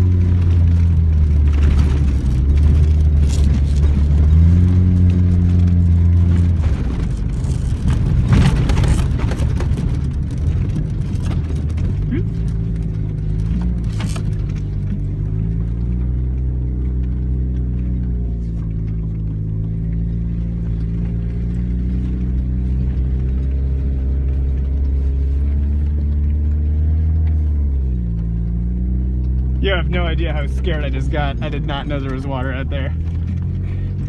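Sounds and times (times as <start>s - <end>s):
truck engine with leaking exhaust: 0.0s - 34.0s.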